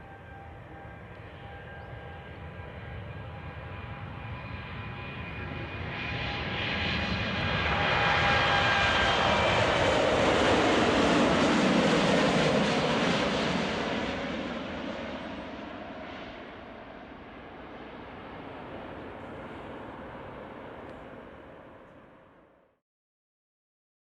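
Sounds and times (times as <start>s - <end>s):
jet engines rumbling and whining: 0.0s - 22.5s.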